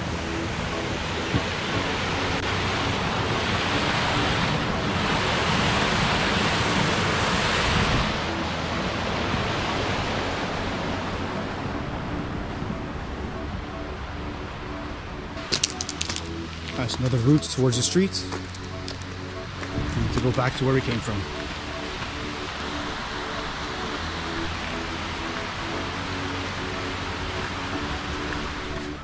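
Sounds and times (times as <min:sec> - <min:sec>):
water rushing over rocks: 0:00.0 - 0:14.5, 0:15.4 - 0:29.0.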